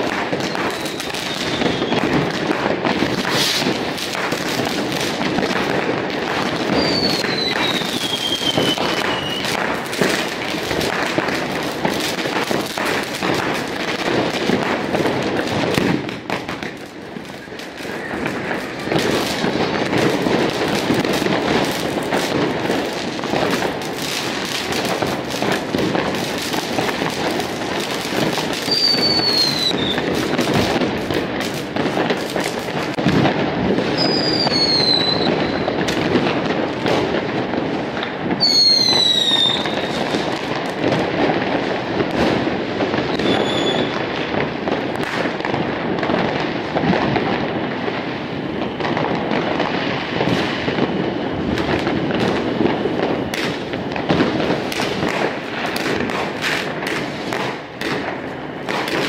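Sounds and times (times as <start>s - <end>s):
firecrackers crackling and banging: 0.0s - 59.0s
whistling fireworks: 0.0s - 59.0s.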